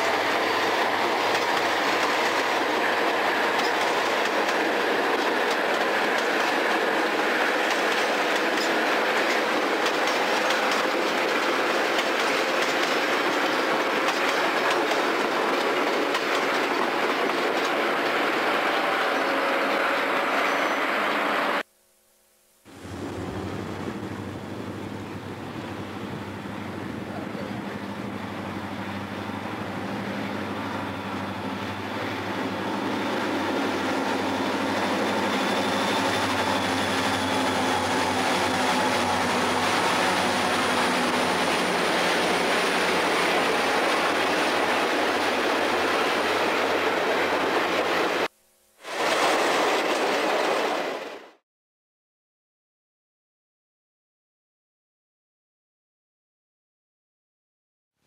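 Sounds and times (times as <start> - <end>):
diesel locomotive engine: 0.0 - 21.6, 22.7 - 48.3
train cars rolling on rails: 0.0 - 21.6, 22.7 - 51.4.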